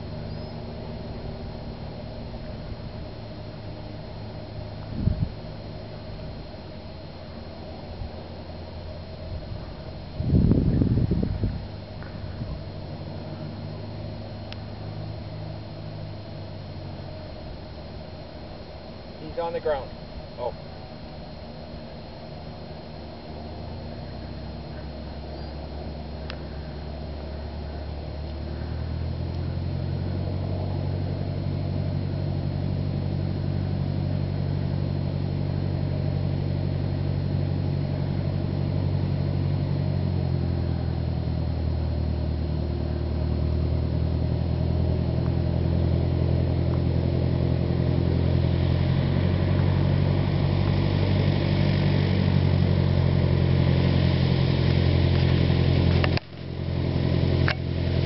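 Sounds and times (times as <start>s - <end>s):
light aircraft engine and propeller: 0.0s - 58.0s.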